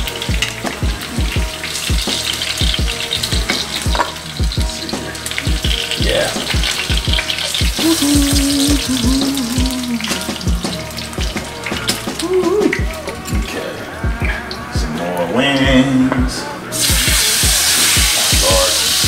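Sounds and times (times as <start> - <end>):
food sizzling in hot oil: 0.0 - 14.7, 16.7 - 19.0.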